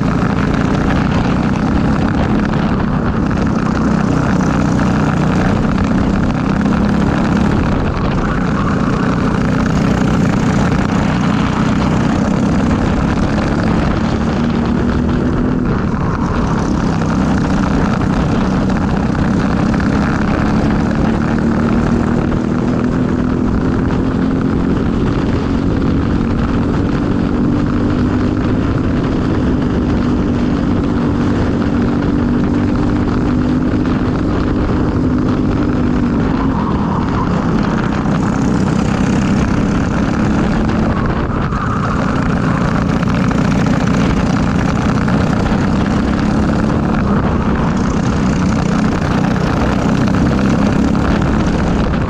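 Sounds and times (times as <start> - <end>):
kart engine running: 0.0 - 52.0.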